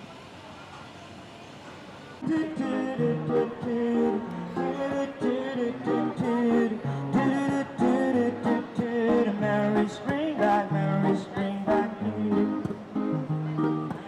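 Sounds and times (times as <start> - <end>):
faint background noise: 0.0 - 14.0
guitar background music: 2.3 - 14.0.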